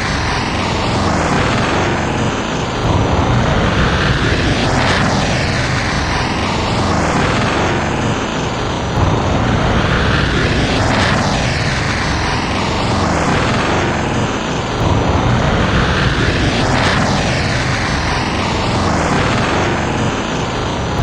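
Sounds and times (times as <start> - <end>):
airplanes engine drone overhead: 0.0 - 21.0.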